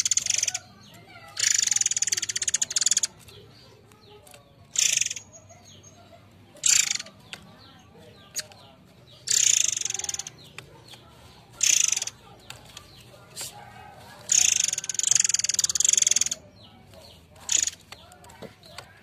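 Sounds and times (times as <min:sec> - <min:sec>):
bird rasping rattling calls: 0:00.0 - 0:19.0
faint bird chirps: 0:00.0 - 0:19.0.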